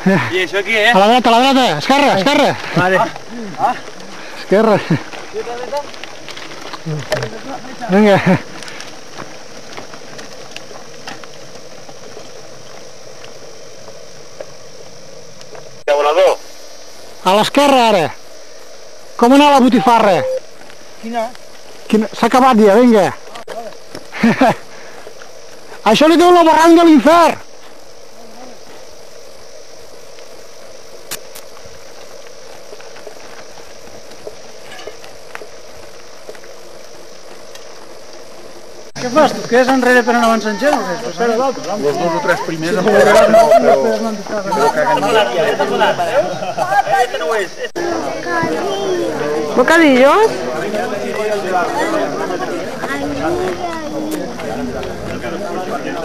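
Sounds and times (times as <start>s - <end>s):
mountain bike on stony track: 0.0s - 16.3s, 17.0s - 56.0s
steady hiss: 0.0s - 56.0s.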